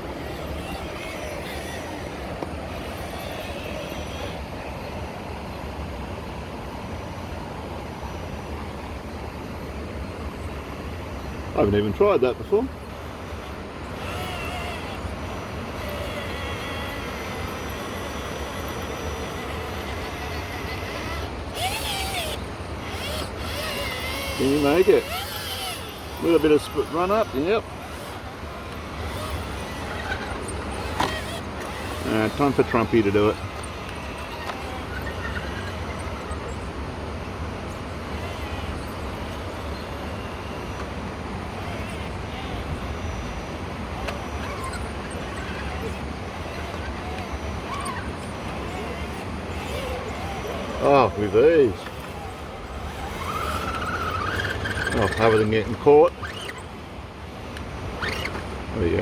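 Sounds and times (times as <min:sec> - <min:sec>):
toy car motor whining: 0:00.0 - 0:05.6, 0:07.7 - 0:59.0.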